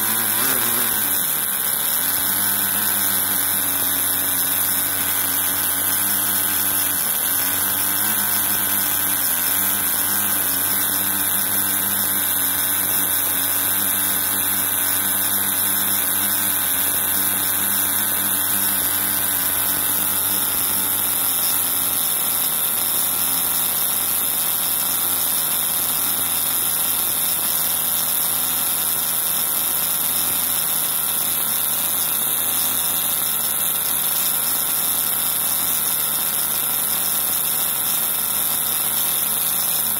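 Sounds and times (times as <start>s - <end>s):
model engine running: 0.0s - 39.9s.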